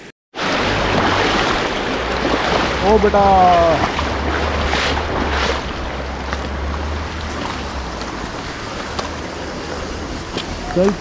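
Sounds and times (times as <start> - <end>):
rushing river water: 0.4 - 11.0
wind rumbling on microphone: 0.4 - 11.0.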